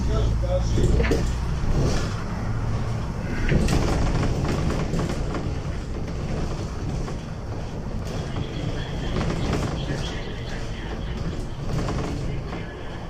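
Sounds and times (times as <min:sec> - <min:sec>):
bus body rattles and knocks: 0:00.0 - 0:13.0
bus engine and road rumble: 0:00.0 - 0:13.0.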